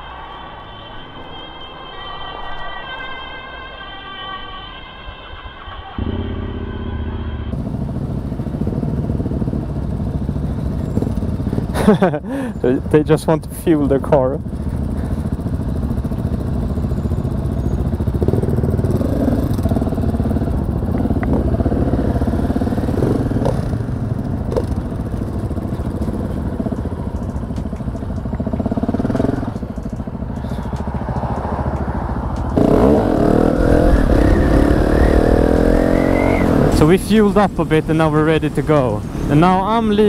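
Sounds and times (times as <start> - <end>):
motorcycle engine idling and revving: 6.0 - 40.0.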